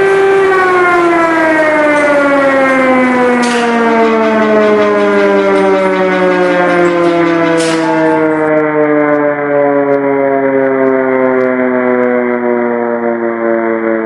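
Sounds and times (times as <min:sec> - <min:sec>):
air-raid siren wailing: 0:00.0 - 0:14.0.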